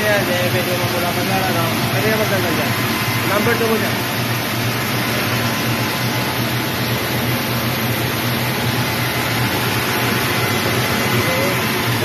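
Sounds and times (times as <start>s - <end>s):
rice milling machine whirring: 0.0s - 12.0s.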